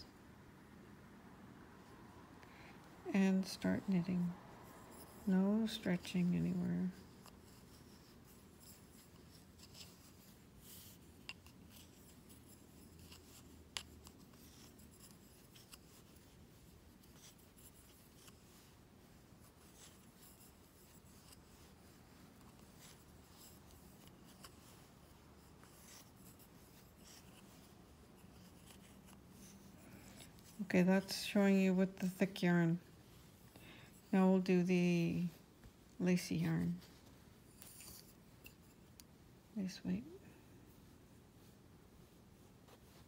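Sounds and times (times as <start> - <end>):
yarn rubbing on knitting needles: 3.1 - 43.0.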